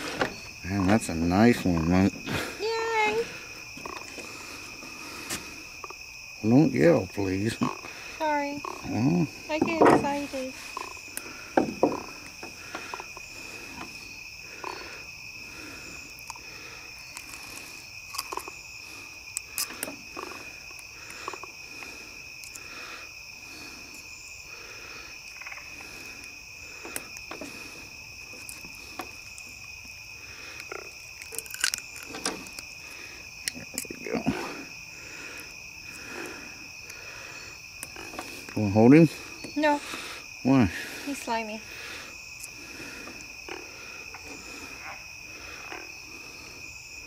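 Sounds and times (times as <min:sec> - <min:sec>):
crickets and insects trilling: 0:00.0 - 0:47.0
frogs calling: 0:00.0 - 0:47.0.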